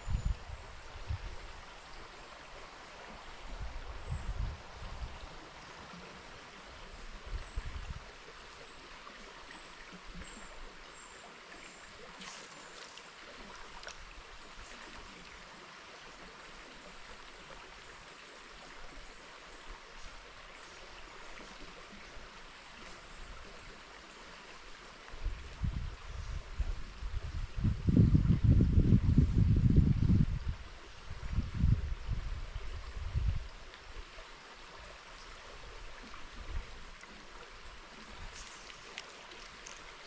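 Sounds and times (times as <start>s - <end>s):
river water flowing: 0.0s - 27.4s, 30.3s - 40.0s.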